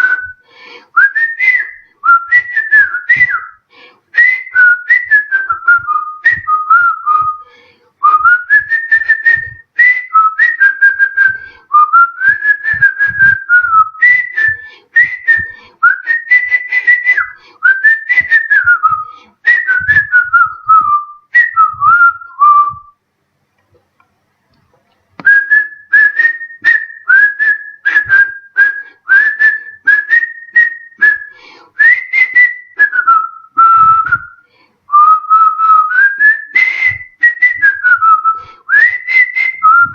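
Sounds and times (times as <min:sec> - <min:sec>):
man whistling: 0:00.0 - 0:23.0, 0:25.2 - 0:39.9.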